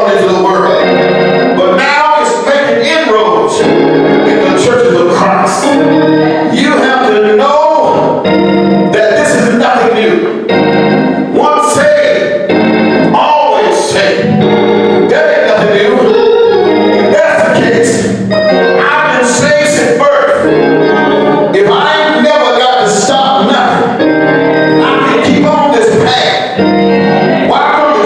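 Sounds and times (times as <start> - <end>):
person singing: 0.0 - 8.3, 13.0 - 28.0
church organ chords: 0.0 - 28.0.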